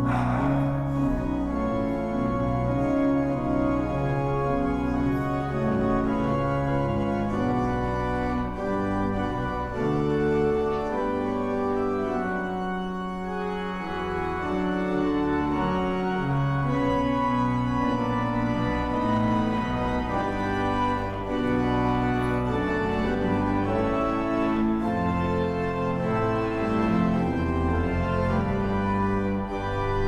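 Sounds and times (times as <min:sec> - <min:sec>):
church organ playing chords: 0:00.0 - 0:30.0.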